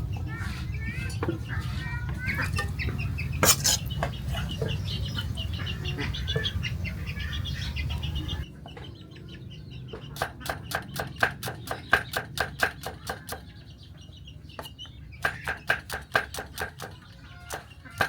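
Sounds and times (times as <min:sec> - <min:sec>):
chickens clucking and peeping: 0:00.0 - 0:18.0.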